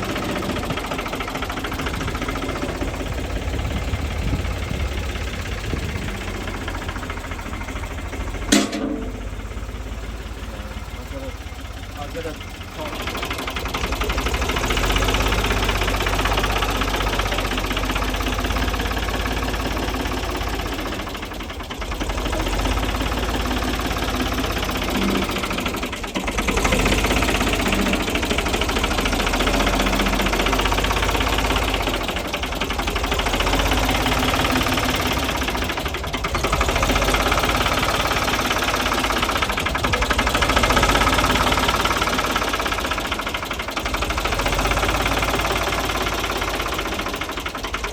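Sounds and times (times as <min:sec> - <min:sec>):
diesel tractor engine running: 0:00.0 - 0:47.9.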